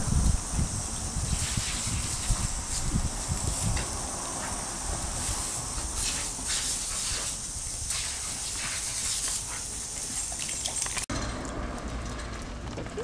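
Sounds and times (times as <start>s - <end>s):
hose water spraying on concrete: 0.0s - 11.0s.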